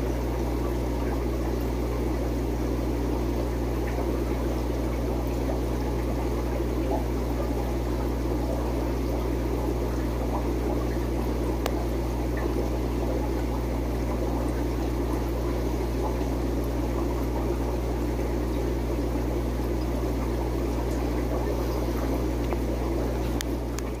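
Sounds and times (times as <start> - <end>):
aquarium equipment humming: 0.0 - 24.0.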